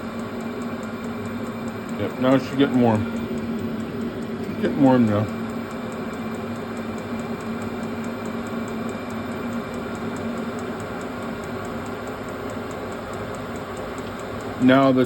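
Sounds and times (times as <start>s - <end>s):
fuel pump ticking: 0.0s - 15.0s
heater fan and burner hum: 0.0s - 15.0s.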